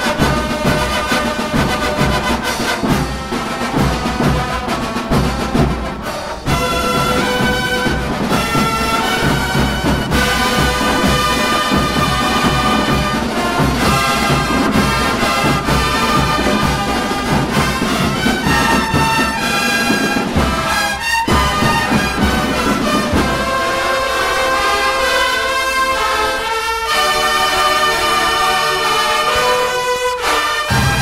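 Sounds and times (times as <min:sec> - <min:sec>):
bugles playing chords: 0:00.0 - 0:31.0
marching drums: 0:00.0 - 0:31.0.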